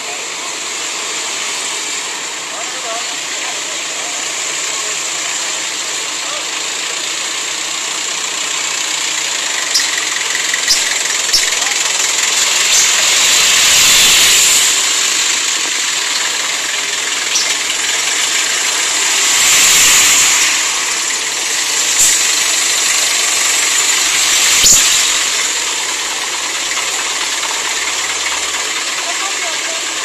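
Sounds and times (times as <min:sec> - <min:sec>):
engines idling in traffic: 0:00.0 - 0:30.0.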